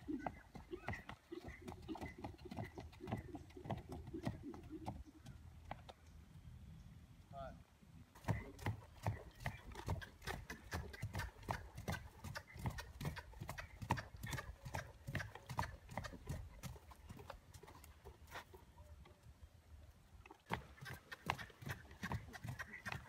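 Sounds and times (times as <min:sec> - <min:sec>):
horse hoofbeats trotting on dirt: 0:00.0 - 0:06.2, 0:08.1 - 0:23.0.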